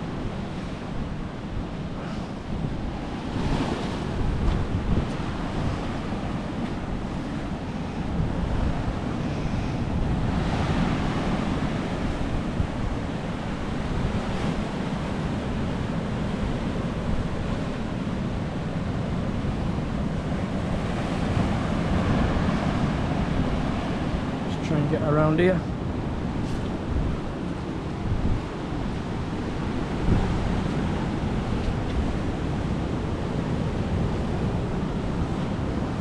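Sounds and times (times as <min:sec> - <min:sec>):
surf on rocky shore: 0:00.0 - 0:36.0
wind buffeting microphone: 0:00.0 - 0:36.0.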